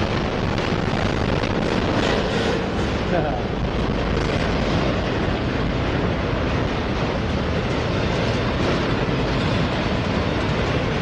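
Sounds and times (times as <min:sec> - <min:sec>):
steel wheels running on rails: 0:00.0 - 0:11.0.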